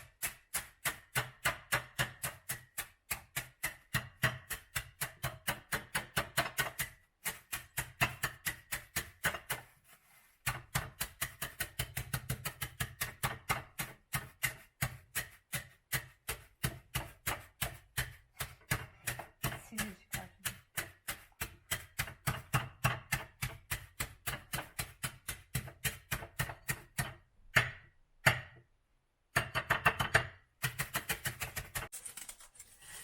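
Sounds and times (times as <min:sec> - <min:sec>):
knife chopping on cutting board: 0:00.0 - 0:09.7, 0:10.4 - 0:28.6.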